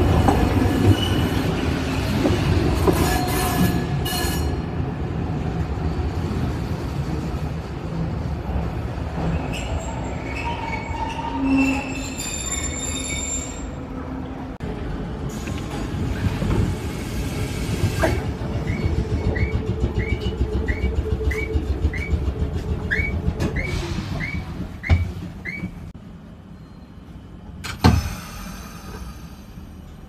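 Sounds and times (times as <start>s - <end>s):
tram equipment humming: 0.0s - 30.0s.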